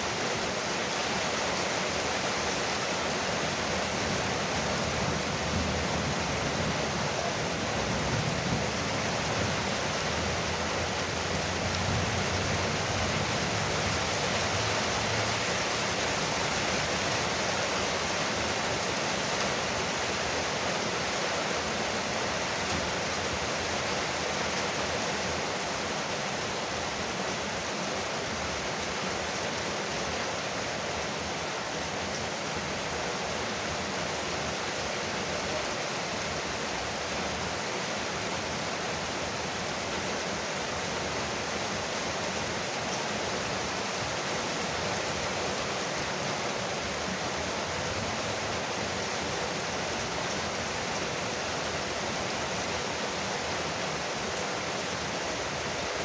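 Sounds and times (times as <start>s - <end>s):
heavy rain drumming on a roof: 0.0s - 56.0s.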